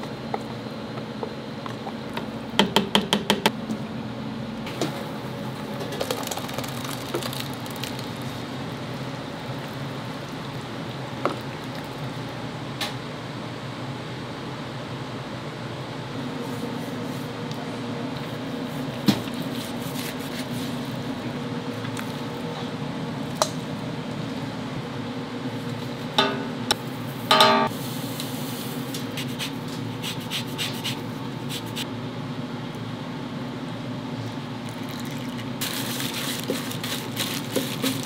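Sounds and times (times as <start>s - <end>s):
ventilation hum: 0.0s - 38.0s.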